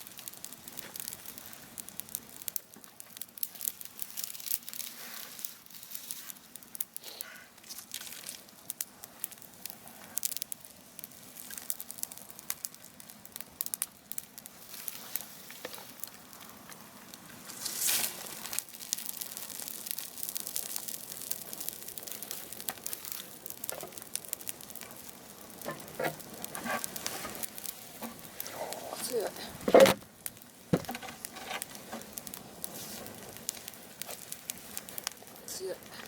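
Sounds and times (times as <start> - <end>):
bonfire crackling and hissing: 0.0 - 36.0
fire popping: 0.0 - 36.0.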